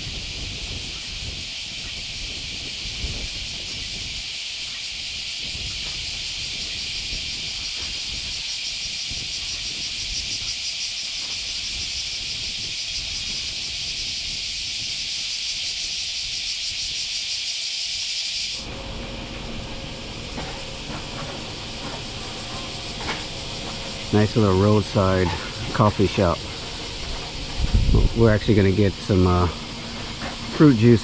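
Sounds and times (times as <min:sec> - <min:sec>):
wind rumble on microphone: 0:00.0 - 0:17.3, 0:18.6 - 0:31.0
cicadas buzzing: 0:00.0 - 0:31.0.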